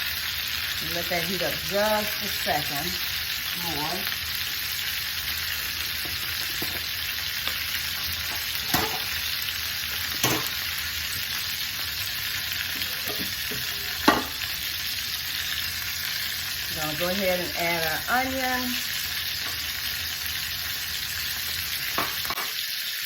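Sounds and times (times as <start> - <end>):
meat sizzling in a skillet: 0.0 - 23.0.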